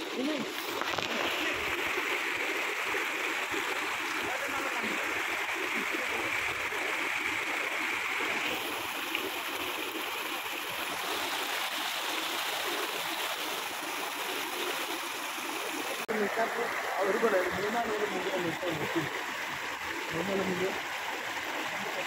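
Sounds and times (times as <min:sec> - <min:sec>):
stream rushing over stones: 0:00.0 - 0:22.0.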